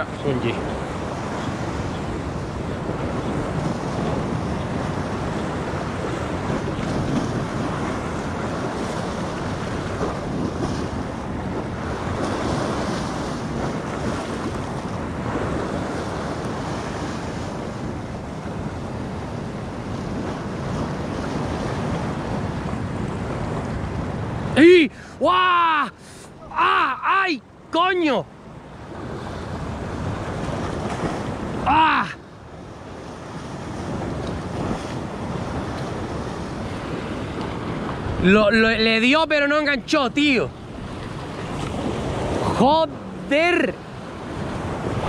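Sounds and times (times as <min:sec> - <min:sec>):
wind buffeting microphone: 0:00.0 - 0:25.3, 0:27.5 - 0:45.0
surf washing in: 0:00.0 - 0:45.0.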